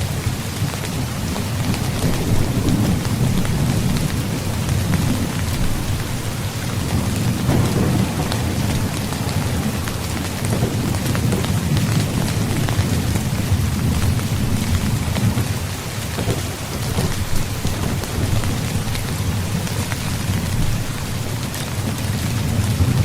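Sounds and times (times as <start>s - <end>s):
heavy rain: 0.0s - 23.0s
low rumble of thunder: 0.0s - 23.0s.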